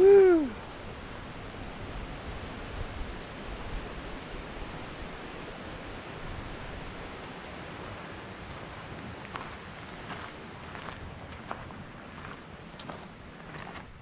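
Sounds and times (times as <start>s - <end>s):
creek rushing over rocks: 0.0s - 14.0s
wind rumble on microphone: 0.0s - 14.0s.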